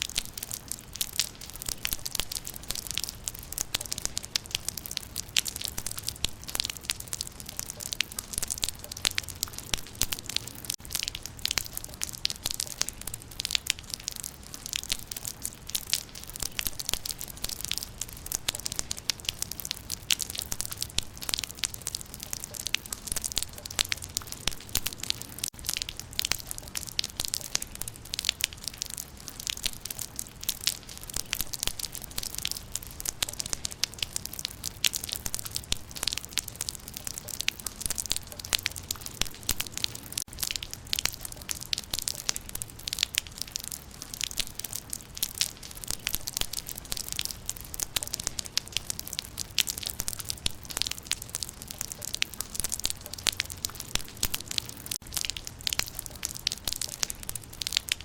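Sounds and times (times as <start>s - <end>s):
rain pattering on leaves: 0.0s - 58.0s.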